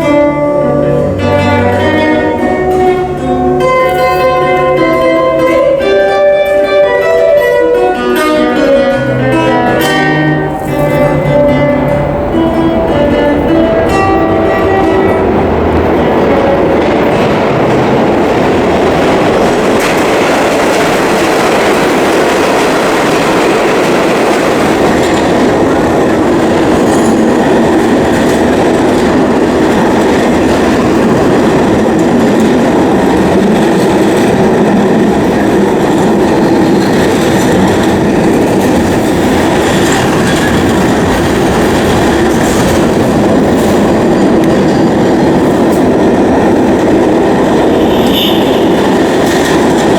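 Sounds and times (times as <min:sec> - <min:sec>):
subway train rumbling: 0:00.0 - 0:49.9
wheels clattering on track: 0:00.0 - 0:49.9.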